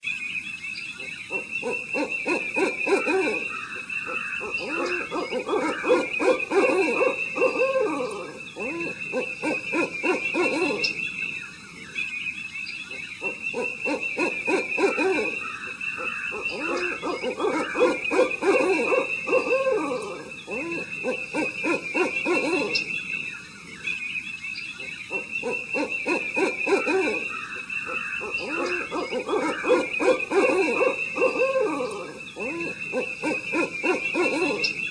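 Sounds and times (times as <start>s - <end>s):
owls calling: 1.0s - 12.0s, 12.7s - 24.0s, 24.6s - 34.9s.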